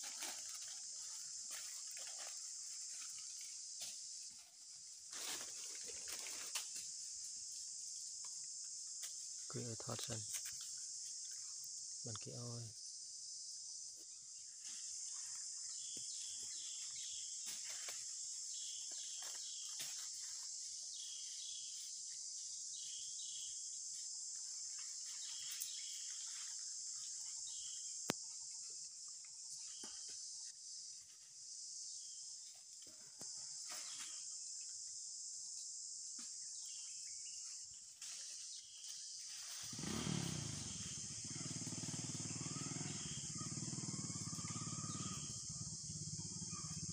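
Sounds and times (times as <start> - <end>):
forest insects droning: 0.0 - 46.9.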